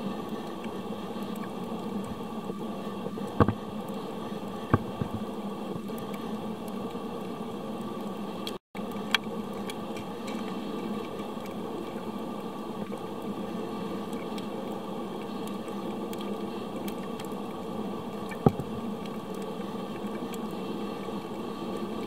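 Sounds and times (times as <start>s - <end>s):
muffled underwater hiss: 0.0s - 22.0s.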